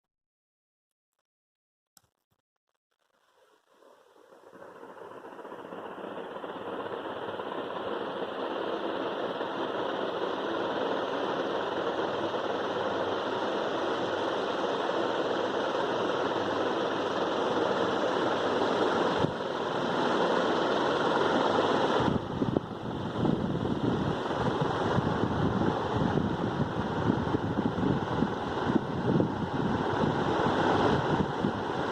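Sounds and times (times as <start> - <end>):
ceiling fan whirring: 3.8 - 31.9.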